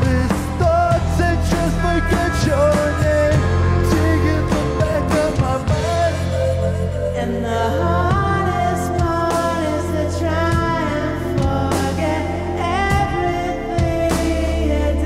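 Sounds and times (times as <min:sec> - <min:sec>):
drum kit: 0:00.0 - 0:07.4, 0:08.0 - 0:15.0
electric bass: 0:00.0 - 0:15.0
electric guitar: 0:00.0 - 0:15.0
man singing: 0:00.0 - 0:15.0.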